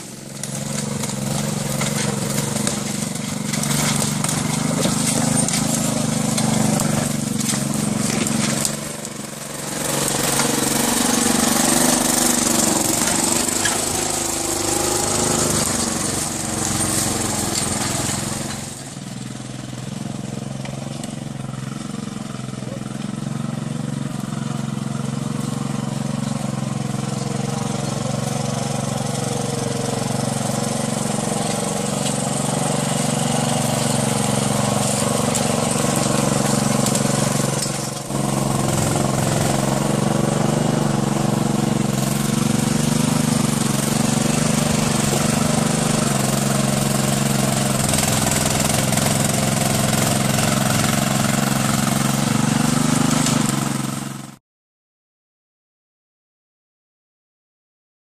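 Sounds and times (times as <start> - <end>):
small engine running: 0.0 - 54.4.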